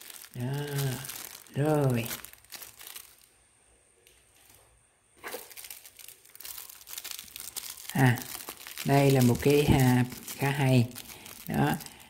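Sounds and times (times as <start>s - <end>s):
plastic bag crinkling: 0.0s - 3.5s, 4.2s - 12.0s.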